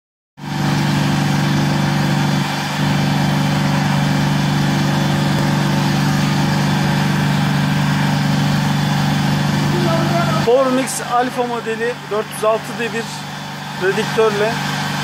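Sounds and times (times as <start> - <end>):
plastering machine humming: 0.4 - 15.0.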